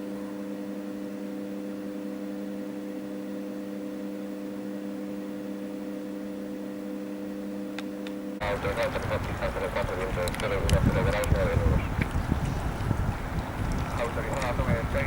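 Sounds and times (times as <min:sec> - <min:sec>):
light aircraft engine drone: 0:00.0 - 0:15.0.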